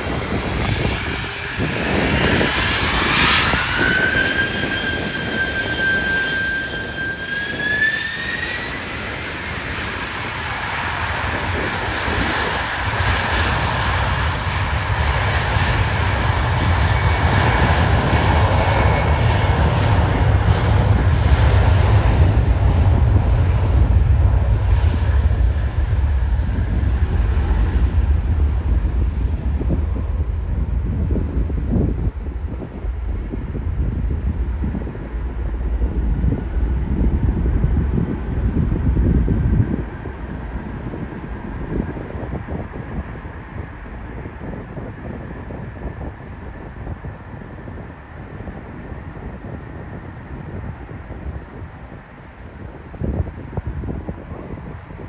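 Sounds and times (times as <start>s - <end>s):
jet engine fan whine: 0.0s - 55.0s
jet engine roar: 0.0s - 55.0s.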